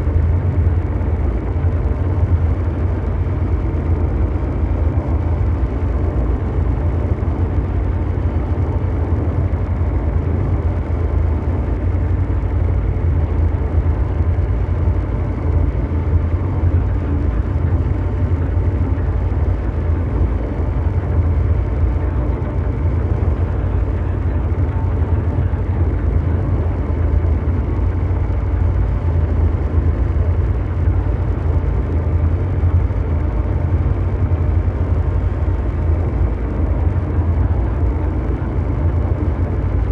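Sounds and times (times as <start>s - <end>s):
deep mechanical rumble: 0.0s - 39.9s
faint steady hum: 0.0s - 39.9s.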